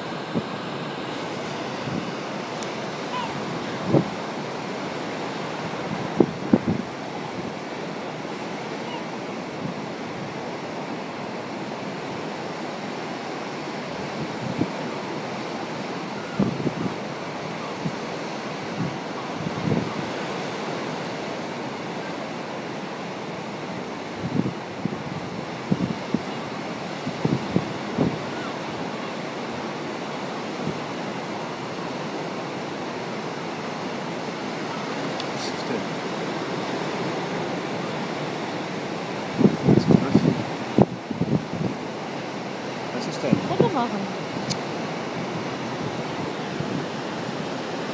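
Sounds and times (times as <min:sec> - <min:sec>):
wind buffeting microphone: 0:00.0 - 0:11.0, 0:13.3 - 0:21.9, 0:23.8 - 0:32.3, 0:33.7 - 0:47.9
surf breaking over rocks: 0:00.0 - 0:47.9.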